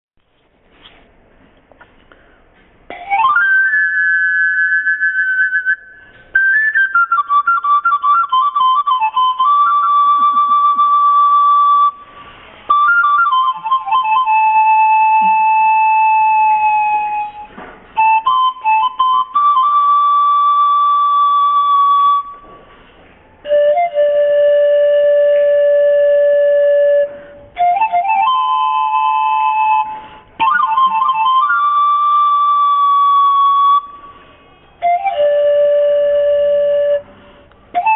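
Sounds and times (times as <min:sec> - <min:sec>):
panpipe melody: 0:02.9 - 0:22.6, 0:23.4 - 0:37.9.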